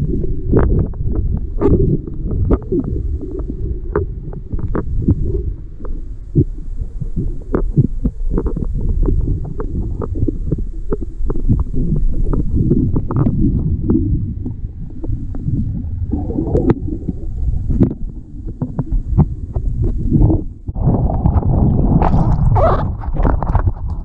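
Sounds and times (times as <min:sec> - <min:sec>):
muffled underwater water rushing: 0:00.0 - 0:24.0.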